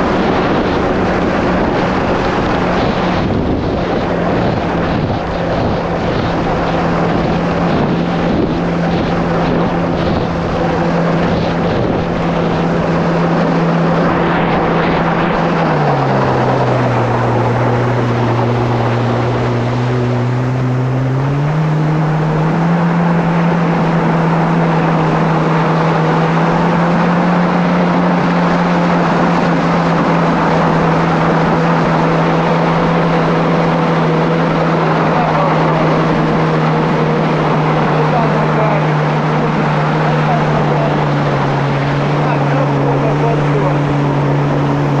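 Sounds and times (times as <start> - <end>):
jet ski engine running: 0.0 - 45.0
wind and water rushing: 0.0 - 45.0.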